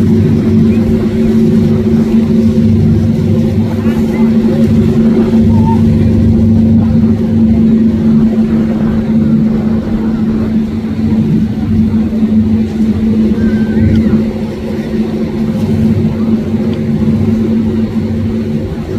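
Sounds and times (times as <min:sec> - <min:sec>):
outboard motors droning: 0:00.0 - 0:18.9
water splashing against hull: 0:00.0 - 0:18.9.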